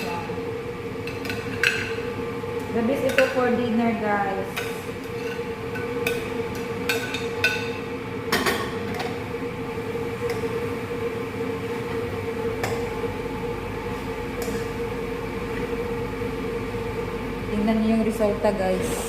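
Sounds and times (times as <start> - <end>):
kitchen hum: 0.0 - 19.0.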